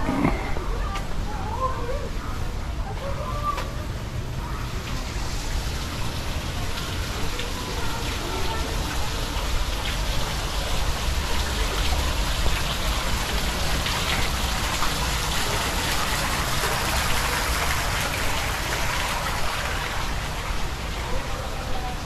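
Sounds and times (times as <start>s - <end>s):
falling water spattering hiss: 0.0s - 22.0s.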